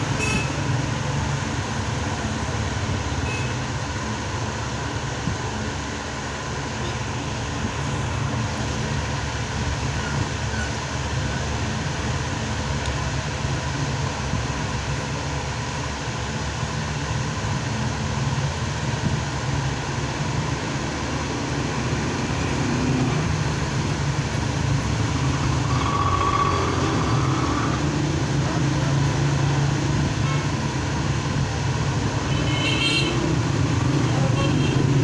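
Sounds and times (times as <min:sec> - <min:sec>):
road traffic din: 0:00.0 - 0:35.0.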